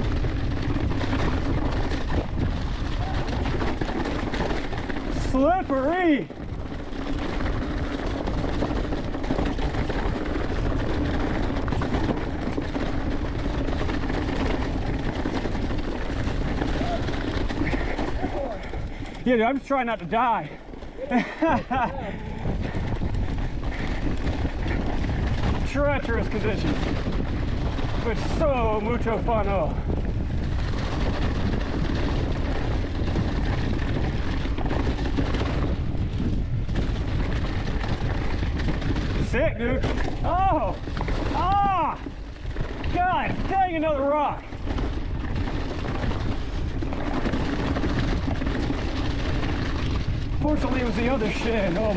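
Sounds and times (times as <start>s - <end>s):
bike rattling over bumps: 0.0s - 51.9s
tyres churning through leaves: 0.0s - 51.9s
wind buffeting microphone: 0.0s - 51.9s.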